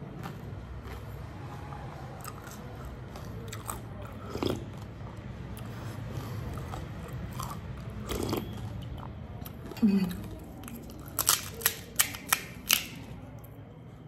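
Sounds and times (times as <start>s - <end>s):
crunchy food chewing: 0.0s - 13.6s.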